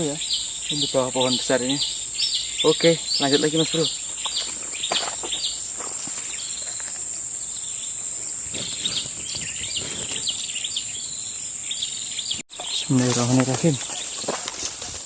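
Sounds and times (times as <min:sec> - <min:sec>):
birds chirping: 0:00.0 - 0:15.0
high-pitched insect drone: 0:00.0 - 0:15.0.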